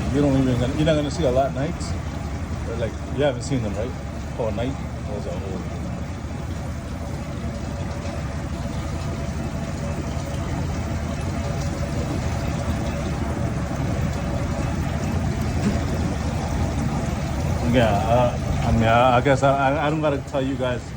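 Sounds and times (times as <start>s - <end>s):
low mechanical rumble: 0.0s - 20.9s.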